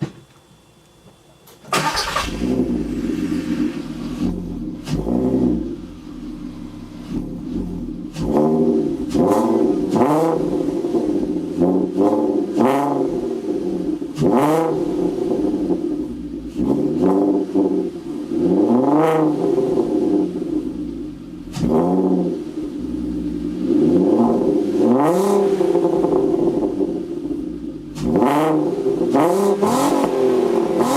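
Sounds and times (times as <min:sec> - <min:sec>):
car engine revving at idle: 0:01.8 - 0:30.9.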